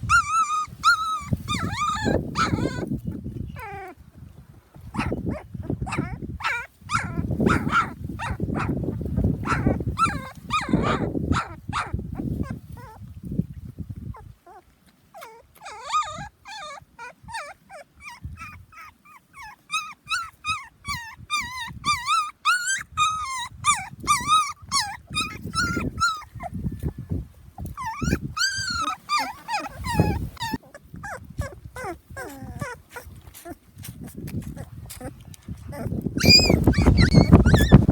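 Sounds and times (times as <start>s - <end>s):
puppies whining and whimpering: 0.0s - 13.2s, 14.0s - 14.6s, 15.2s - 37.9s.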